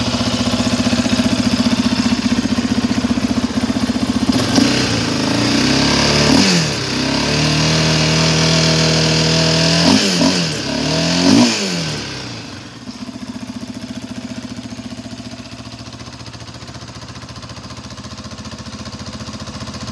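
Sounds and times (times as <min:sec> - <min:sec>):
atv engine revving and idling: 0:00.0 - 0:19.9.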